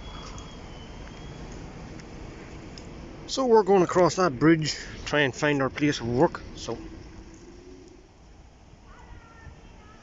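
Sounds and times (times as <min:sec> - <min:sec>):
outdoor low rumble: 0:00.0 - 0:10.0.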